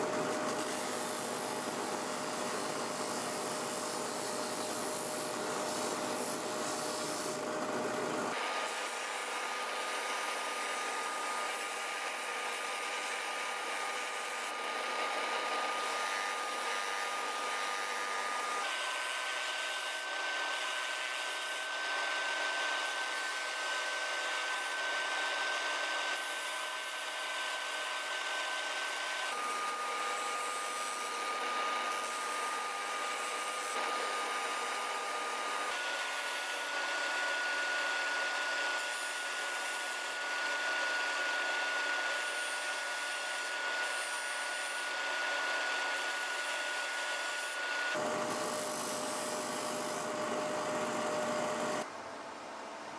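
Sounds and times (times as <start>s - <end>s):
wood being sanded: 0.4s - 7.5s, 8.3s - 51.8s
spindle sander whine: 7.2s - 51.9s.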